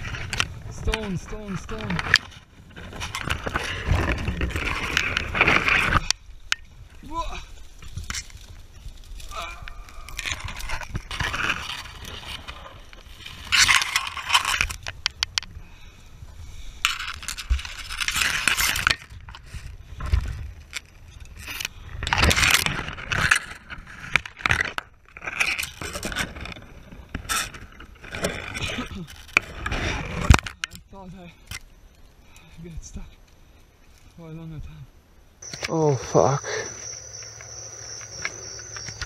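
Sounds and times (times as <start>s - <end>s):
marsh grass rustling: 0.0s - 24.6s, 31.3s - 39.0s.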